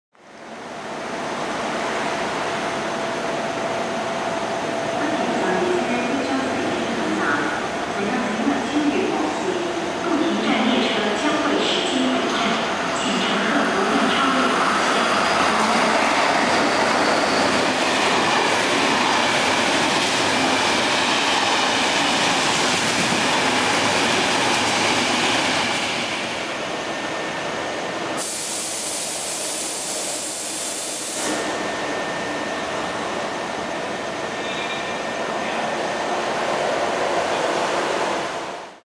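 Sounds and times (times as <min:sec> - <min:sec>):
train wheels rushing on rail: 0:00.4 - 0:38.8.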